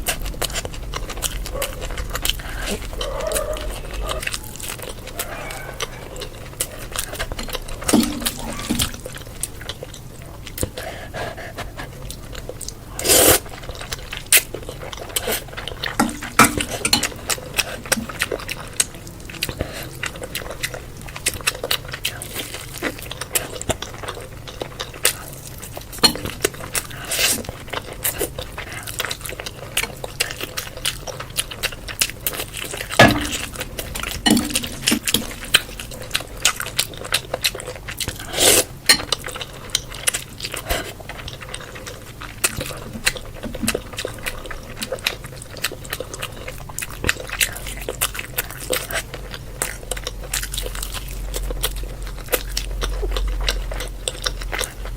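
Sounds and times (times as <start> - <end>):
wet chewing and mouth smacking: 0.0 - 54.9.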